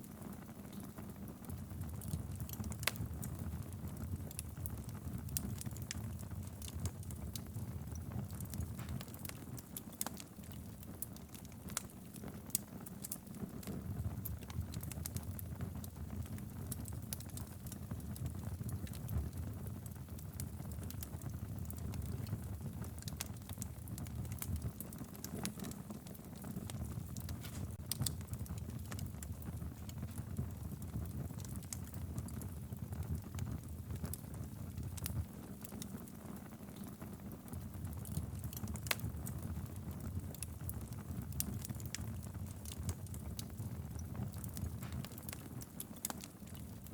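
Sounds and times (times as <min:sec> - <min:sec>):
low rumble of flames: 0:00.0 - 0:46.9
wood crackling and popping: 0:00.0 - 0:46.9.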